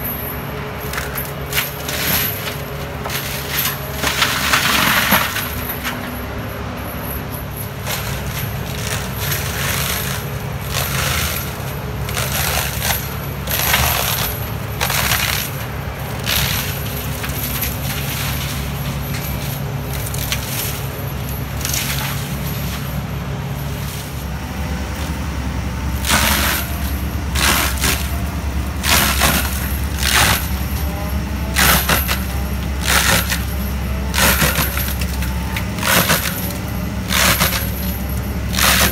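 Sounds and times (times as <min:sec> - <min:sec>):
debris clattering against rotor: 0:00.0 - 0:24.3, 0:26.0 - 0:38.9
diesel engine running under load: 0:00.0 - 0:38.9
mulcher shredding brush: 0:00.0 - 0:38.9.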